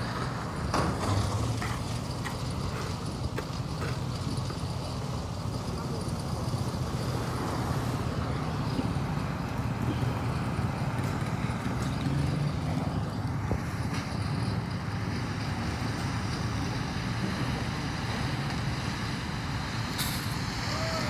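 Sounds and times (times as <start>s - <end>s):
concrete mixer engine running: 0.0s - 21.0s.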